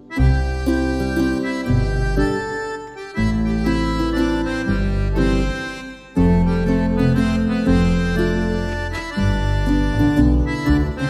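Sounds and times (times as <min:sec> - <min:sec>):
held chords over bass line: 0:00.0 - 0:11.0.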